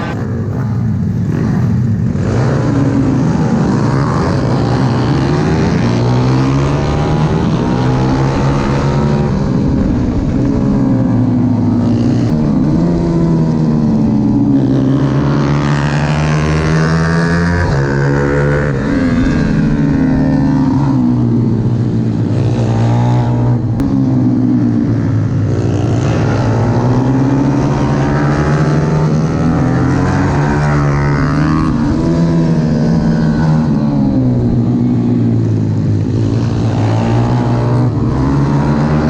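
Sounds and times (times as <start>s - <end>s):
pit bike engine revving: 0.0s - 39.0s.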